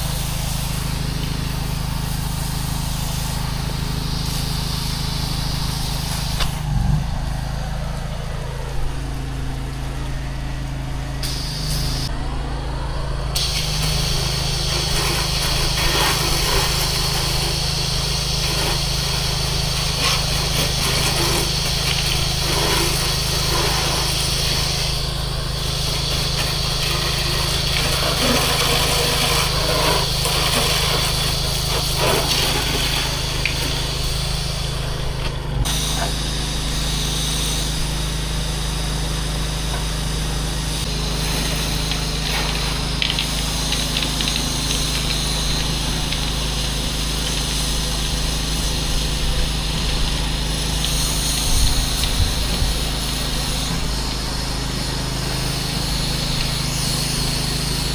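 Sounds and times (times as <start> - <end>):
high-pressure water spray hiss: 0.0 - 57.9
pressure washer engine running: 0.0 - 57.9.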